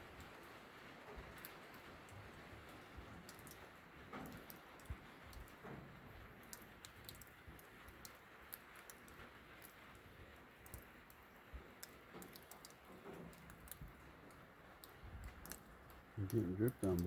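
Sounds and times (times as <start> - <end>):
raindrops ticking on metal roof: 0.0 - 17.0
soft rain hiss: 0.0 - 17.0.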